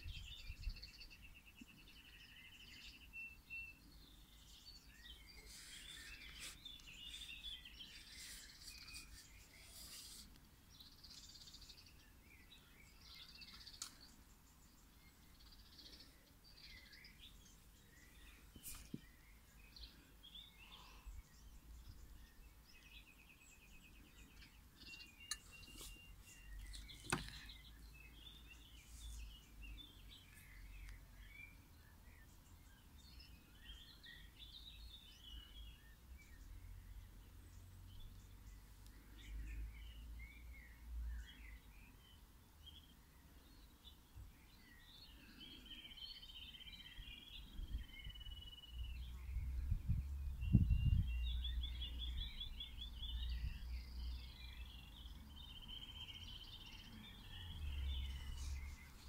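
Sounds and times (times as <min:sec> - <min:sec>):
bird chirps and twitters: 0:00.0 - 0:59.0.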